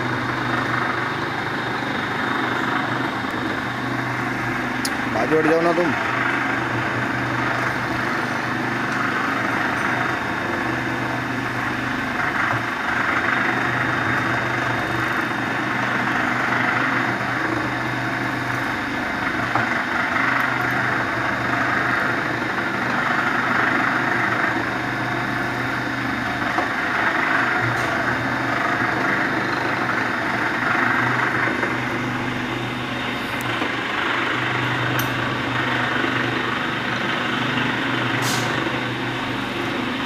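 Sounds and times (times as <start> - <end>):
machine motor humming: 0.0 - 40.0.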